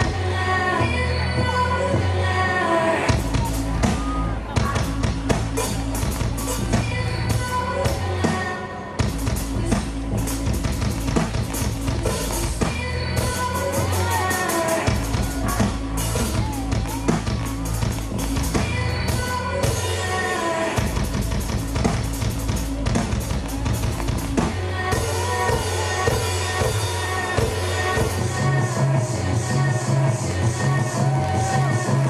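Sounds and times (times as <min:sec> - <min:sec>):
background music with drum beat: 0:03.0 - 0:32.0.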